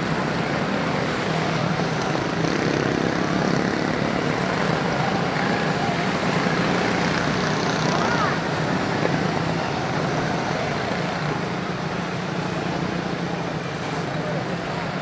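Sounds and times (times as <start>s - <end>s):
small race car engines droning: 0.0s - 15.0s.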